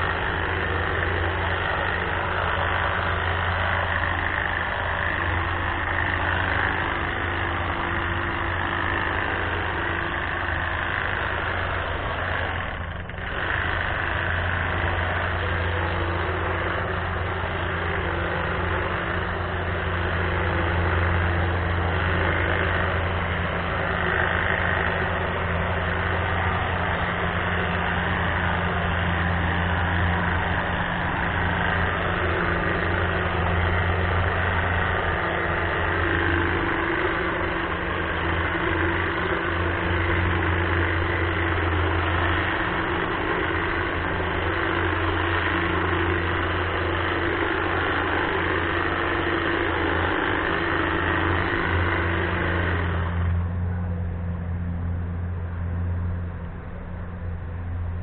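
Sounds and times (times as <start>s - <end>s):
hedge trimmer humming: 0.0s - 58.0s.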